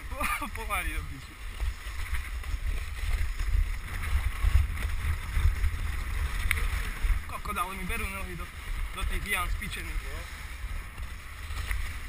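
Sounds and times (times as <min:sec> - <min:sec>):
skis hissing on packed snow: 0:00.0 - 0:12.0
wind buffeting microphone: 0:00.0 - 0:12.0.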